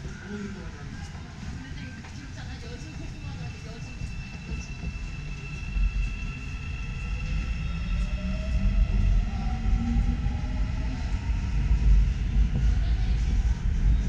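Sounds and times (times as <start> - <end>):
subway train rumble: 0.0 - 14.0.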